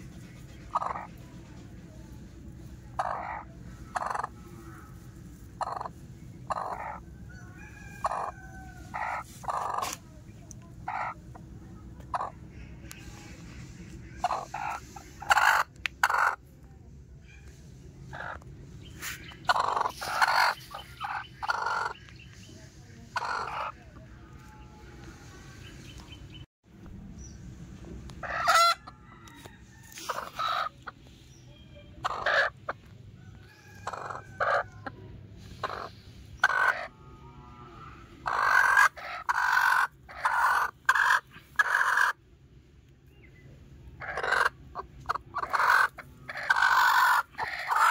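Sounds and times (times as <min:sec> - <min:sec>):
hens calling: 0:00.0 - 0:01.4, 0:02.2 - 0:10.0, 0:10.6 - 0:16.4, 0:17.4 - 0:26.3, 0:28.2 - 0:31.1, 0:31.7 - 0:42.2, 0:43.9 - 0:47.9.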